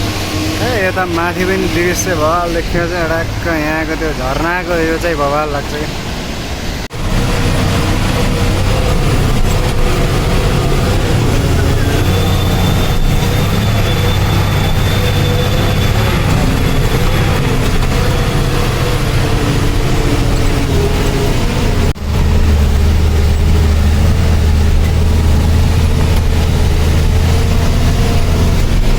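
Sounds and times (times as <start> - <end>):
truck engine rumbling: 0.0 - 28.9.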